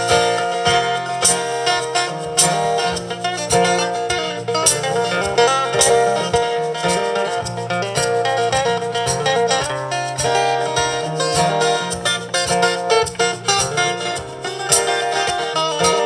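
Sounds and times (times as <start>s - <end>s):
plucked acoustic guitar: 0.0s - 16.0s
steady bass line: 0.0s - 16.0s.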